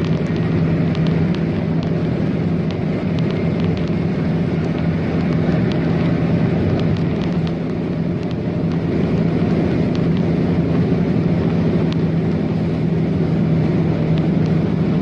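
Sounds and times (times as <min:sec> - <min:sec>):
moving vehicle drone: 0:00.0 - 0:15.0.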